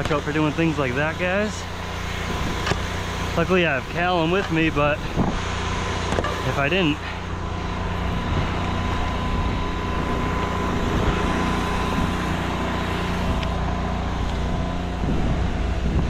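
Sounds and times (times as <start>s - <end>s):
pump droning: 0.0s - 16.0s.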